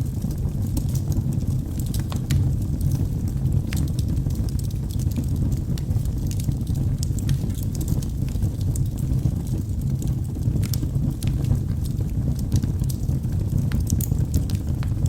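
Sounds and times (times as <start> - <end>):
burning logs crackling and popping: 0.0 - 15.0
flames rumbling in fireplace: 0.0 - 15.0.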